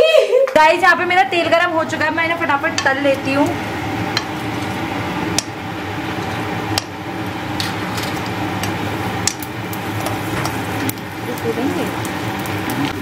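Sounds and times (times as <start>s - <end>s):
stove hiss and hum: 0.0s - 13.0s.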